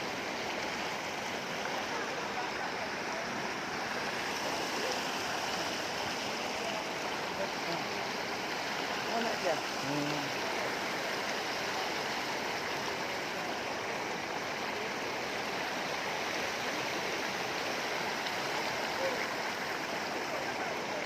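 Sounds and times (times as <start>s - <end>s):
water rushing into whirlpool: 0.0s - 21.0s.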